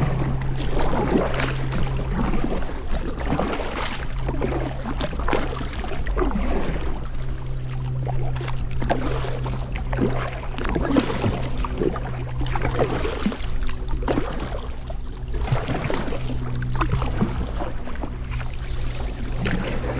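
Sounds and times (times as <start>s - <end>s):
paddle strokes splashing water: 0.0s - 19.9s
steady low hum: 0.0s - 19.9s.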